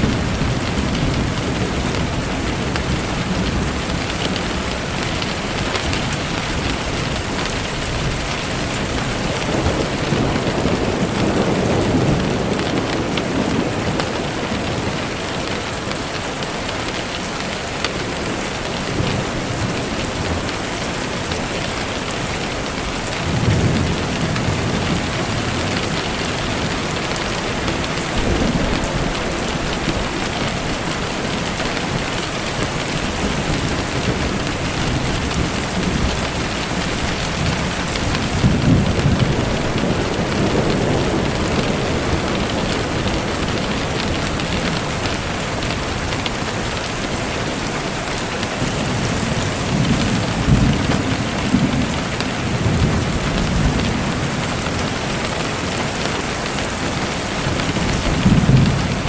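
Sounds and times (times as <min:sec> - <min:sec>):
distant thunder rumbles: 0:00.0 - 0:15.8, 0:18.0 - 0:59.0
steady rain falling: 0:00.0 - 0:59.0.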